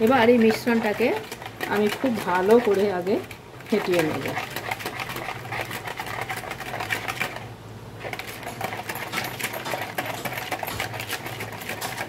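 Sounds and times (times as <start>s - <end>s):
whisk beating batter in bowl: 0.0s - 12.0s.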